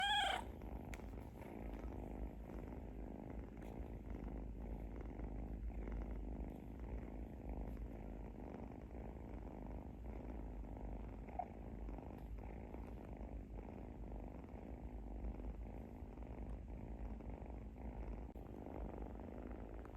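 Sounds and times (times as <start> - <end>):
kitten purring: 0.0 - 19.9.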